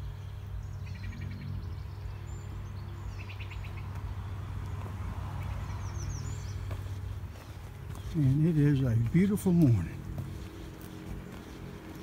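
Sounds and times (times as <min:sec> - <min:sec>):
bird chirping trill: 0:00.0 - 0:04.4, 0:05.4 - 0:12.0
songbirds calling: 0:00.0 - 0:12.0.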